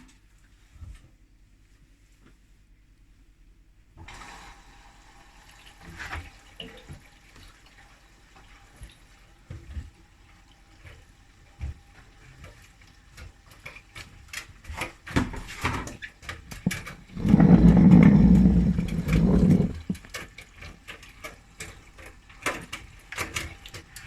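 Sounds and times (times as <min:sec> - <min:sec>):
washing machine filling with water: 0:03.9 - 0:24.0.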